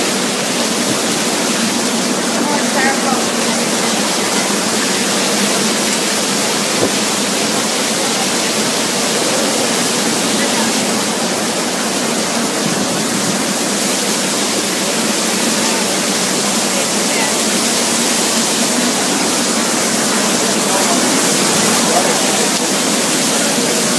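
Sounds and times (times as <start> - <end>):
driving rain: 0.0 - 23.9
hurricane wind: 0.0 - 23.9.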